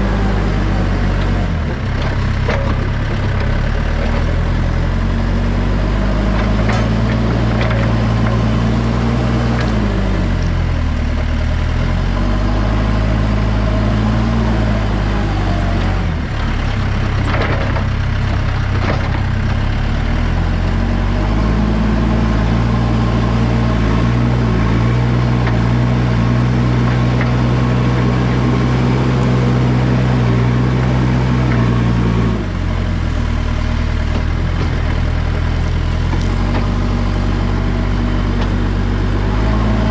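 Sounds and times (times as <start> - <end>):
backhoe engine working: 0.0 - 39.9.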